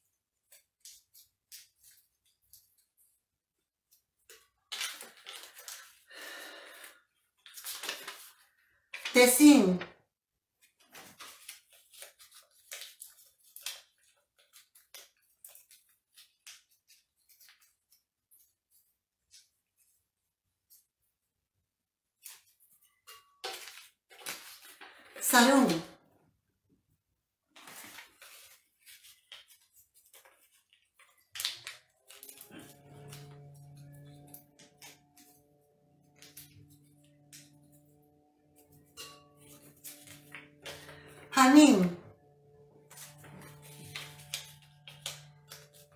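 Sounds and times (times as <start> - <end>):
paper crinkling: 0.0 - 9.2, 10.6 - 20.0, 22.2 - 25.2, 27.5 - 41.2, 42.8 - 45.9.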